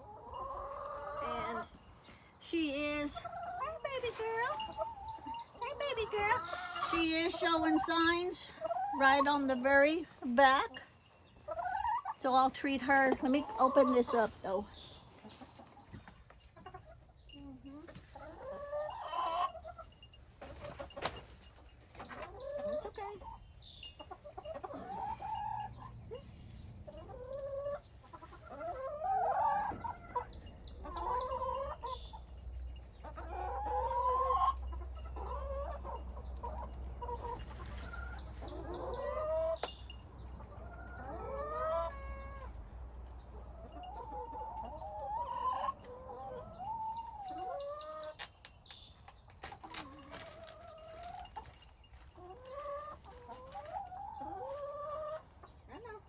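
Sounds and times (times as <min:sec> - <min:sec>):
chickens clucking and squawking: 0:00.0 - 0:56.0.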